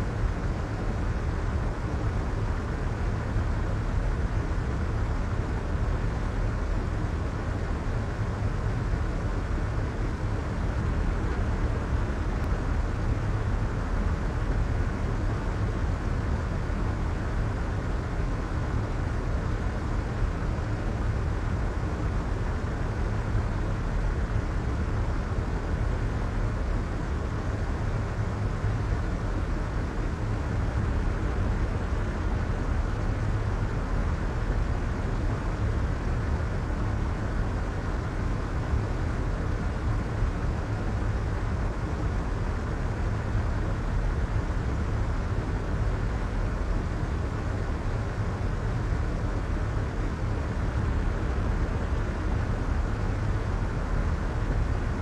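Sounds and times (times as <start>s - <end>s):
soft white noise hiss: 0.0s - 55.0s.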